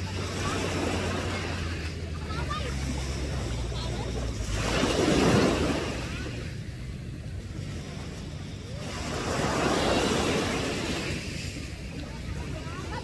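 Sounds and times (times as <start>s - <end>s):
small waves washing up beach: 0.0s - 13.0s.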